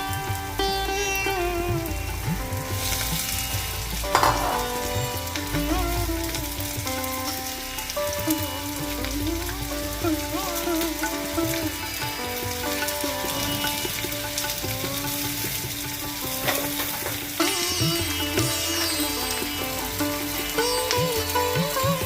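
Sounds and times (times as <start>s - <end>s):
instrumental music with strings: 0.0s - 22.0s
food sizzling in hot oil: 2.0s - 21.8s.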